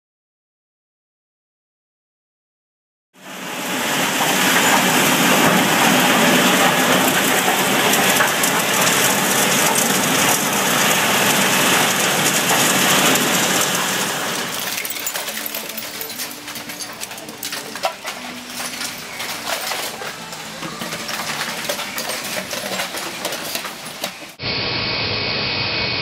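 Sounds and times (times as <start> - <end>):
particles showering onto metal chute: 3.2 - 24.4.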